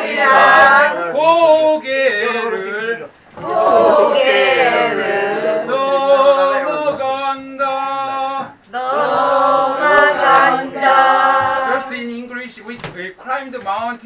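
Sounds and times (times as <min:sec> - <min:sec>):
group of people singing: 0:00.0 - 0:12.3.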